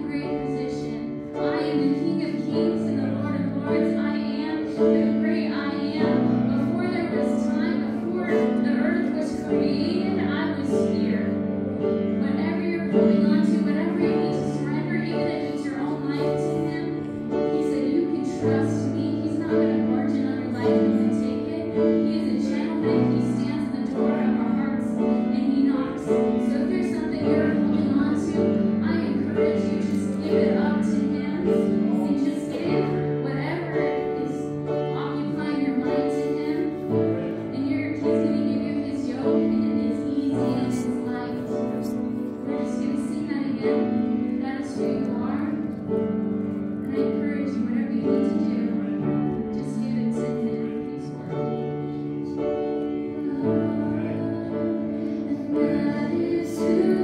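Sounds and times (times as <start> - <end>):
women singing: 0.0 - 11.4, 12.2 - 45.7, 46.9 - 57.0
piano: 0.0 - 57.0.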